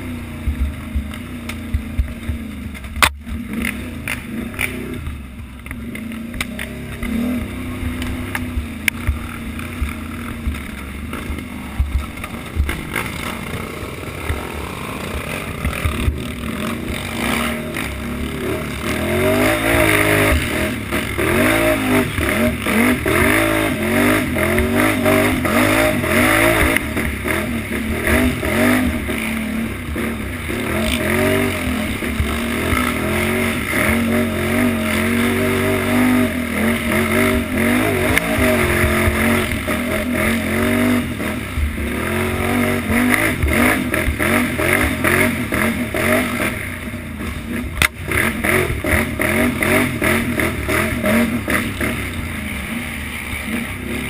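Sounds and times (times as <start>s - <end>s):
atv engine revving: 0.0s - 54.0s
atv clattering over bumps: 0.1s - 52.3s.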